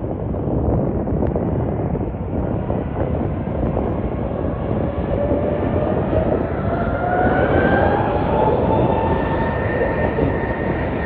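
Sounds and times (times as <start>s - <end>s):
jet engine whine: 0.0s - 11.0s
jet engines deep rumble: 0.0s - 11.0s.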